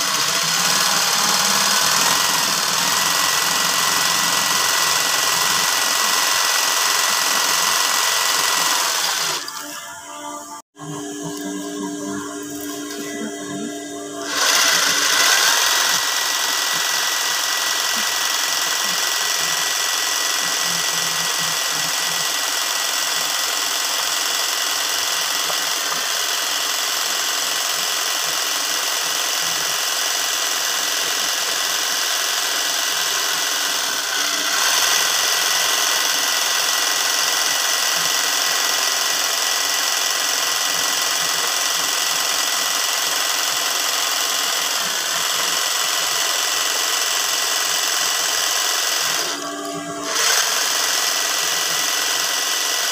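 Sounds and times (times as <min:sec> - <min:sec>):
sewing machine running: 0:00.0 - 0:52.9.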